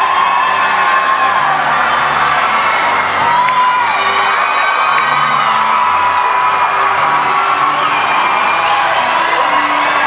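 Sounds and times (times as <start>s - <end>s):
crowd cheering and shouting: 0.0s - 10.0s
music playing: 0.0s - 10.0s.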